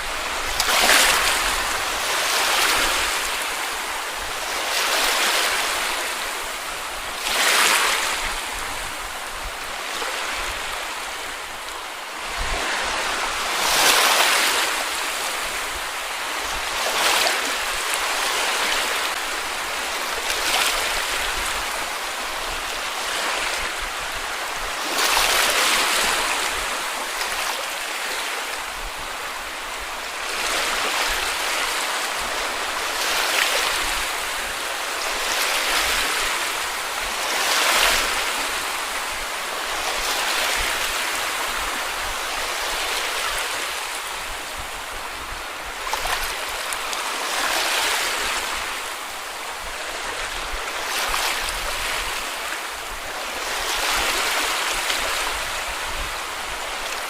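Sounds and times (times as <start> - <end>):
sea waves washing on beach: 0.0 - 57.0.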